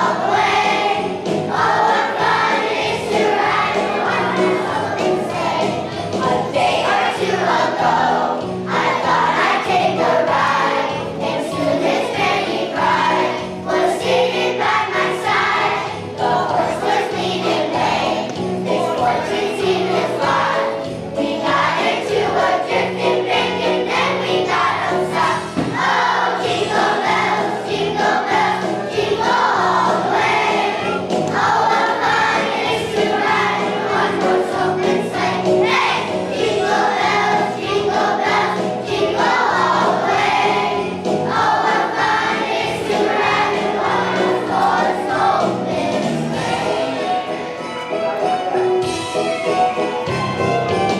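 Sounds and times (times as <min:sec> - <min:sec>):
children's choir singing: 0:00.0 - 0:50.9
instrumental accompaniment: 0:00.0 - 0:50.9.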